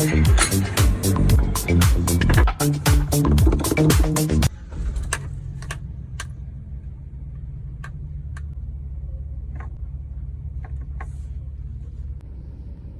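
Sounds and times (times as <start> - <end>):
van engine idling: 0.0 - 12.9.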